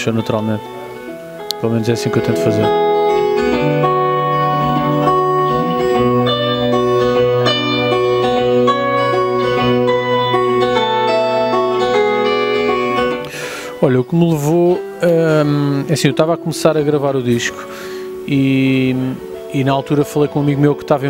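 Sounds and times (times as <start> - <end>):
fingerstyle guitar melody: 0.0 - 21.0.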